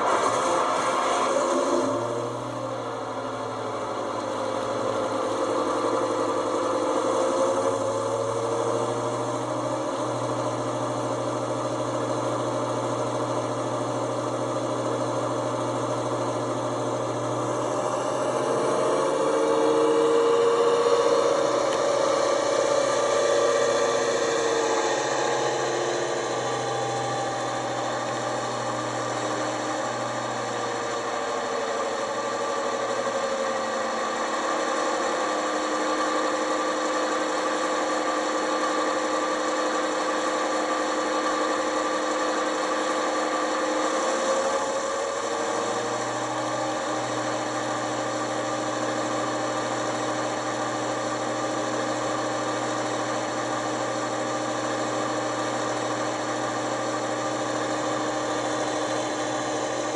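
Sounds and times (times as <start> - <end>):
diesel engine through small speaker: 0.0 - 59.9.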